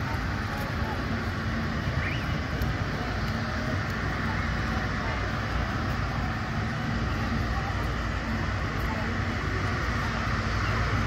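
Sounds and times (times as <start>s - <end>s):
crowd chatter: 0.0s - 11.0s
jet engines running: 0.0s - 11.0s.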